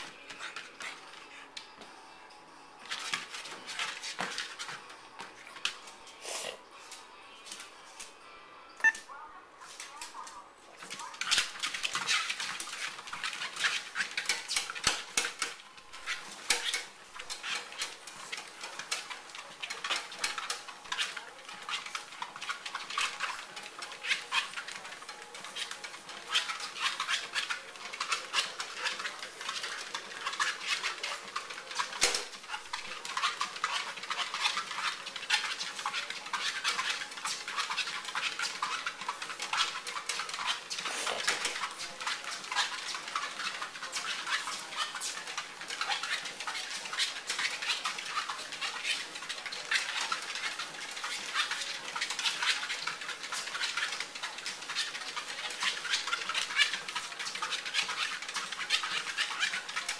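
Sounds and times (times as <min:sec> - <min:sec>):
dog paws pattering on treadmill: 0:00.0 - 0:59.9.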